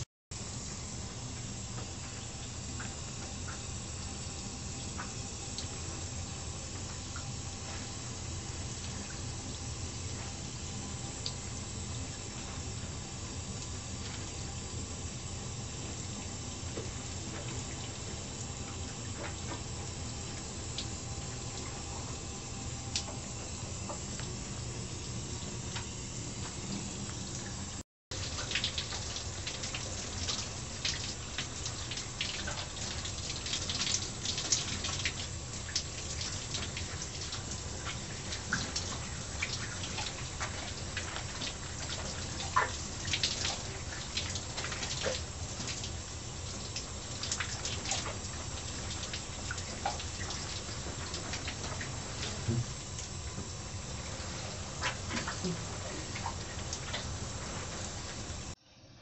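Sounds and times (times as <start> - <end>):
shower spray splashing: 0.4 - 58.6.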